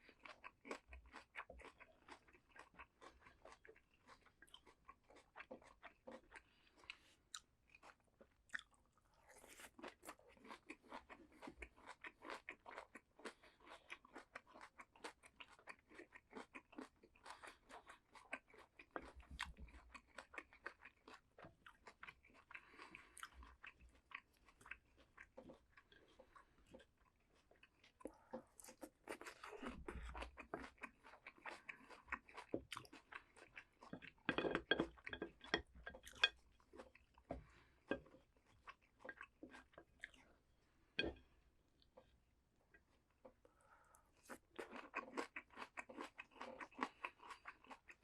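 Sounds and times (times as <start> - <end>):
person chewing crunchy vegetables: 0.0 - 40.4, 42.8 - 48.0.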